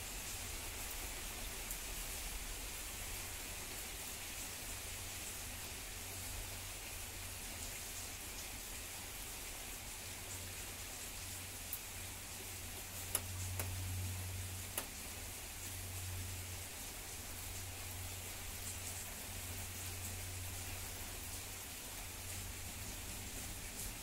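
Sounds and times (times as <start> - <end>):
rain hiss: 0.0 - 24.0
raindrops ticking close by: 0.0 - 24.0.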